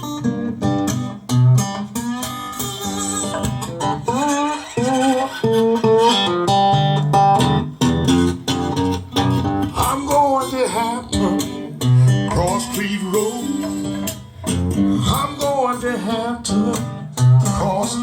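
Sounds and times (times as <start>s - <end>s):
acoustic blues guitar: 0.0s - 18.0s.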